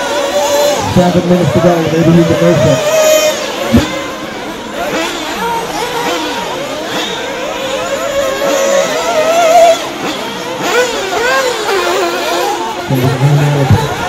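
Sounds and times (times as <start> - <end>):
small engines racing: 0.0 - 14.0.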